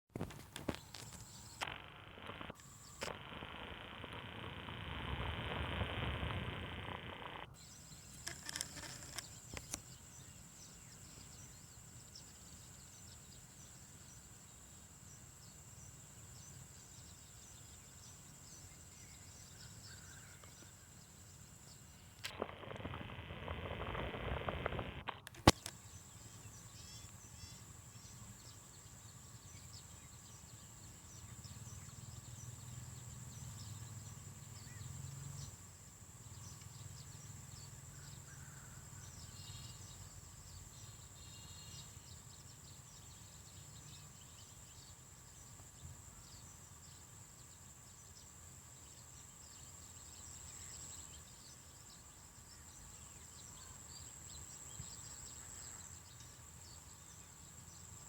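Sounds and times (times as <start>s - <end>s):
bird or insect chirps: 0.2s - 58.0s
insects droning: 0.2s - 58.0s.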